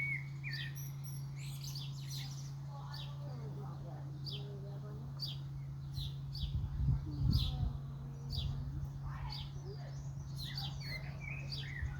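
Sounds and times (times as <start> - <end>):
small bird chirping: 0.0 - 3.3, 5.2 - 11.9
steady low hum: 0.0 - 11.9.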